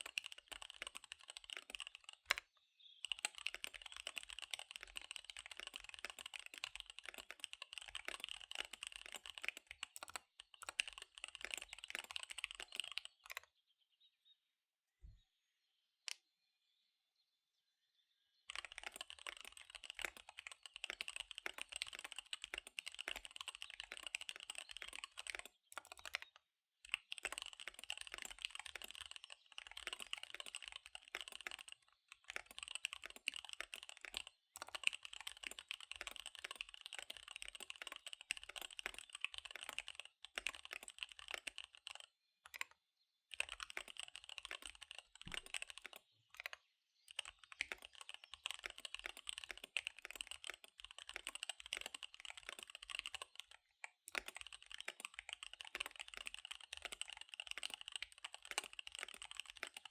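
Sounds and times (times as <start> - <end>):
fast typing on mechanical keyboard: 0.0 - 2.4, 3.0 - 13.4, 18.5 - 59.9.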